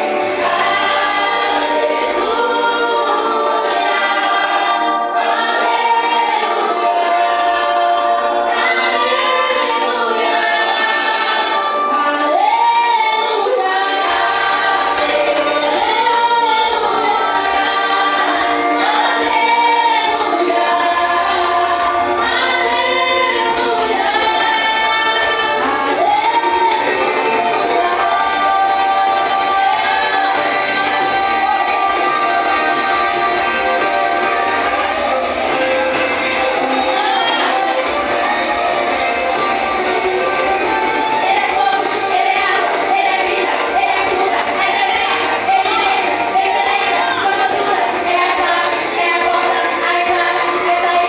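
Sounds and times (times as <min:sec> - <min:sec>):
group singing worship song: 0:00.0 - 0:51.0.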